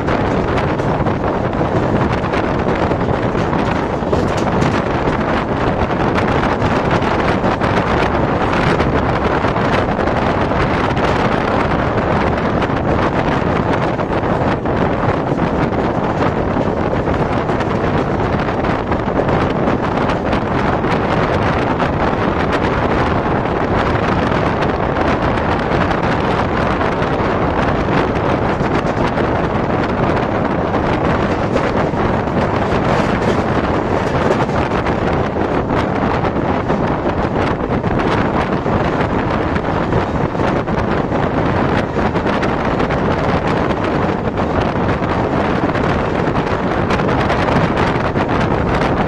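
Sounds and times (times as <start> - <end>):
train wheels on track: 0.0 - 49.0
wind buffeting the microphone: 0.0 - 49.0.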